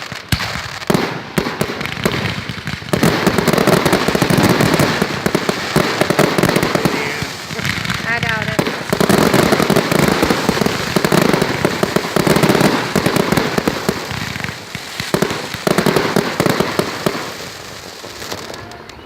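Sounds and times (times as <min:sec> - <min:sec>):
fireworks popping and crackling: 0:00.0 - 0:19.0.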